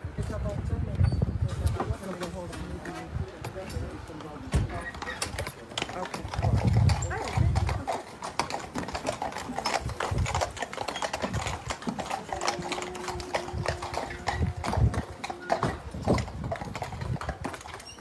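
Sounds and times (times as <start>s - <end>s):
horse hooves clip-clopping: 0.0s - 18.0s.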